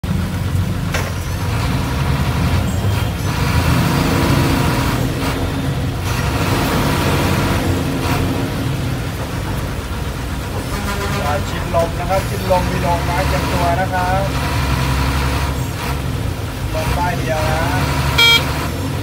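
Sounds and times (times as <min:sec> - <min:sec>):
bus engine rumbling: 0:00.0 - 0:19.0
road noise: 0:00.0 - 0:19.0.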